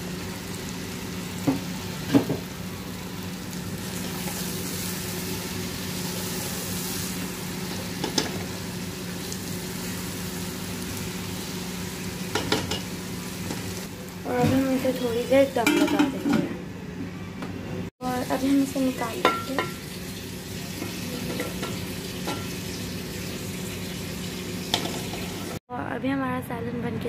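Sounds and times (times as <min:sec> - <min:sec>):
curry sizzling in a pot: 0:00.0 - 0:16.1, 0:18.0 - 0:25.6.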